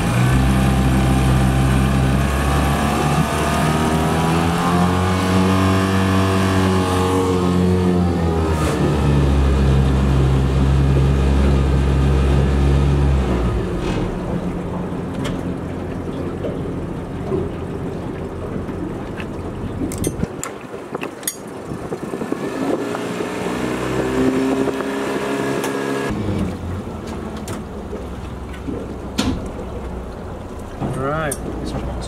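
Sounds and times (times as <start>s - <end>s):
outboard motor running: 0.0s - 32.0s
water noise: 0.0s - 32.0s
wind: 0.0s - 32.0s.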